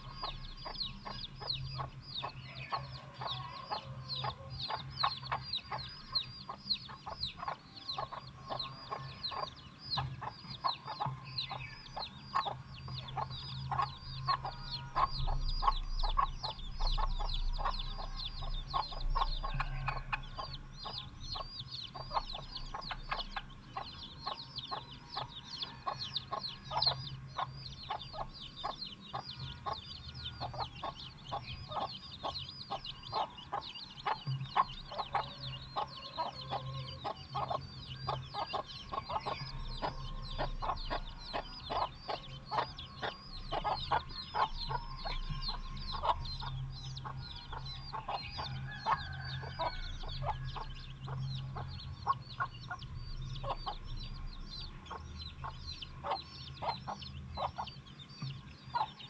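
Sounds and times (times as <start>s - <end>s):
chicks peeping: 0.0s - 59.0s
hen clucking: 0.0s - 59.0s.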